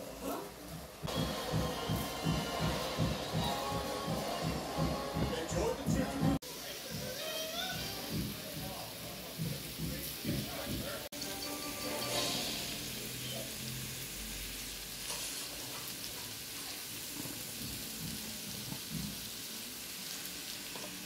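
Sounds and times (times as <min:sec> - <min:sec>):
vegetables sizzling in a pot: 0:00.0 - 0:21.0.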